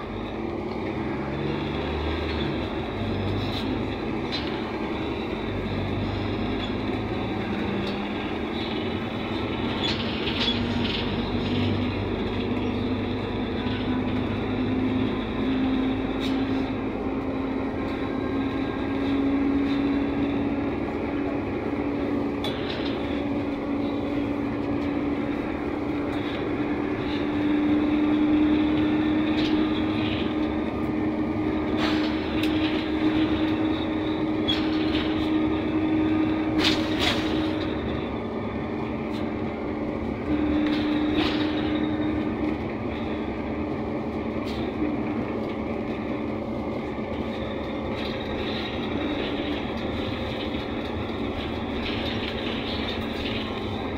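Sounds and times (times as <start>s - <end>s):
bus engine drone with whine: 0.0s - 53.9s.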